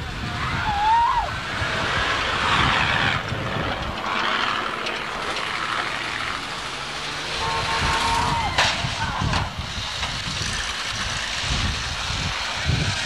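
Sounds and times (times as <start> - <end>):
noisy hiss: 0.0 - 13.0
truck engines rumbling: 0.0 - 13.0.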